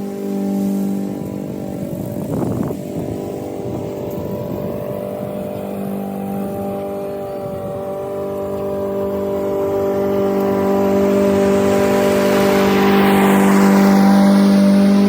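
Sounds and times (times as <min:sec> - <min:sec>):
lawn mower running: 0:00.0 - 0:15.0.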